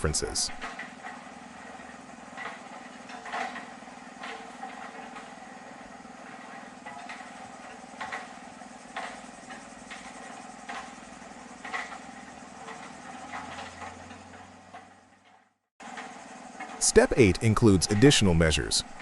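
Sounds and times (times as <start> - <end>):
machine humming: 0.0 - 19.0
short knocks and clatters: 0.6 - 16.8.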